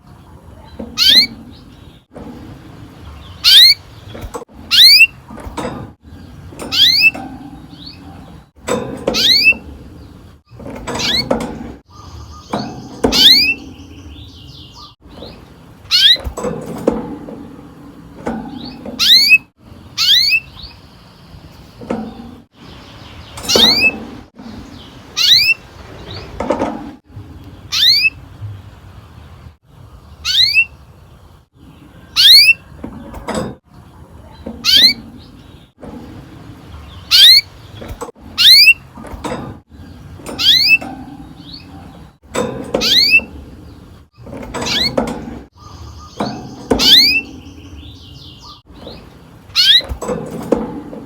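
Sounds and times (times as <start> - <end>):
canary chirping: 0.3 - 17.0, 18.2 - 26.6, 27.3 - 28.4, 30.0 - 30.9, 31.6 - 50.6.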